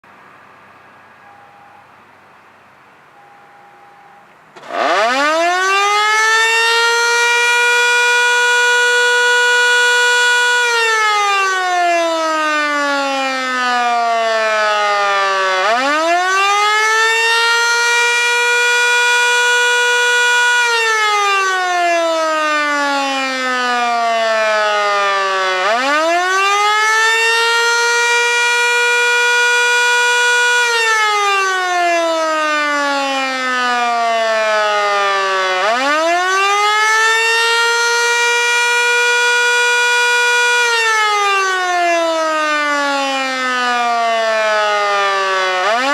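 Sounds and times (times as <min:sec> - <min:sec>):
fire siren wailing: 0:03.2 - 0:45.9.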